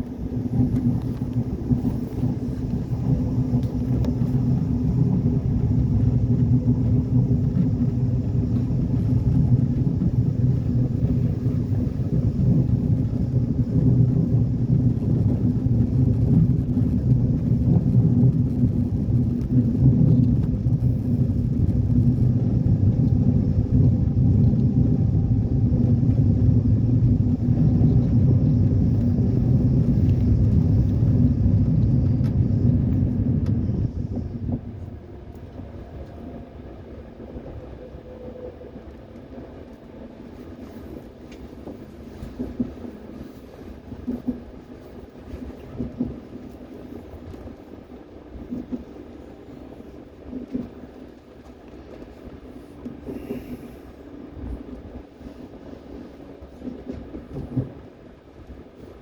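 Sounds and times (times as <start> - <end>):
train rumbling in motion: 0.0 - 59.0.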